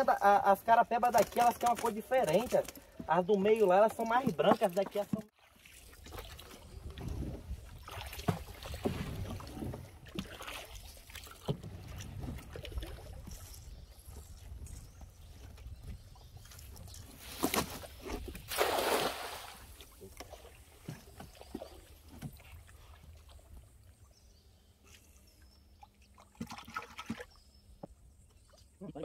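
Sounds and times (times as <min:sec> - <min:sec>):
water splashing around canoe: 0:00.1 - 0:28.8.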